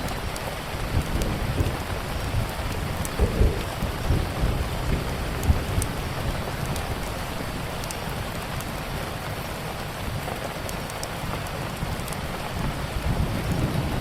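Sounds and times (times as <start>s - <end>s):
steady rain: 0.0s - 14.0s
wood fire crackles: 0.0s - 14.0s.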